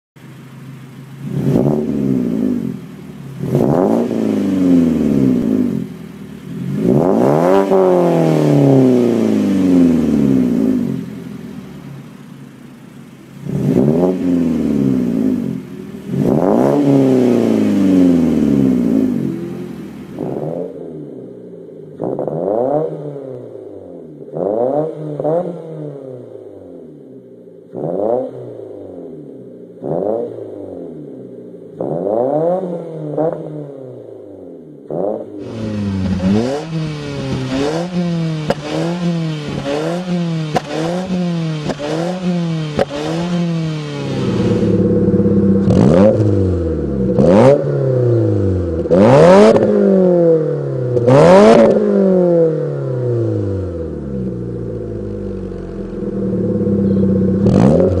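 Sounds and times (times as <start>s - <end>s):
car engine revving: 0.2s - 58.0s.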